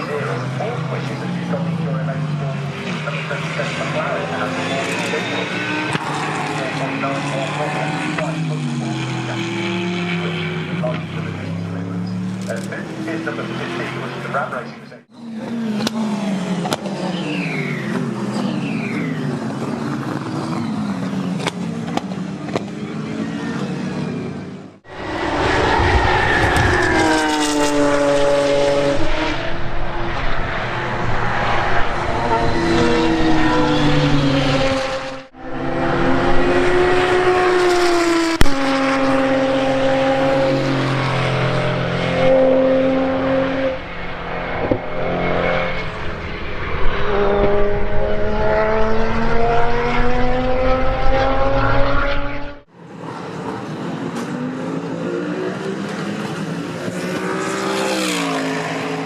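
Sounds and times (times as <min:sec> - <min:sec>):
race car engines accelerating: 0:00.0 - 0:59.0.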